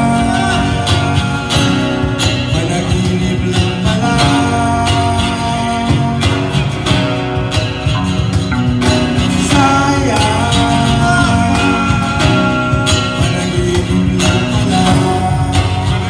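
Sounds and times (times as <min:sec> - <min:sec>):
band playing live: 0:00.0 - 0:16.0
percussion beat: 0:00.0 - 0:16.0
strummed acoustic guitar: 0:00.0 - 0:16.0.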